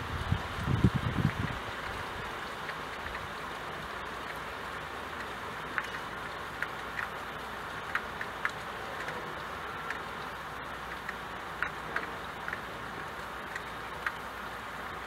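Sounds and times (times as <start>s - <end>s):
rain on a window pane: 0.0s - 15.0s.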